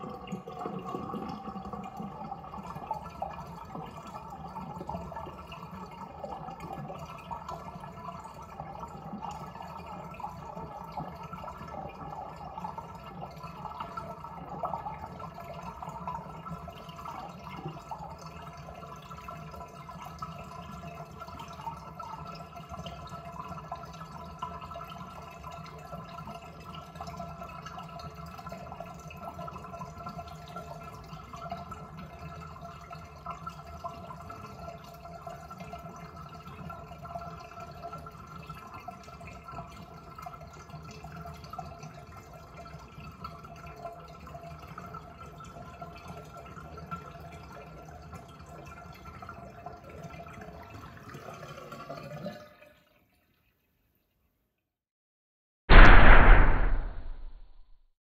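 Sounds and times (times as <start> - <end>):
bathtub water draining: 0.0 - 53.6.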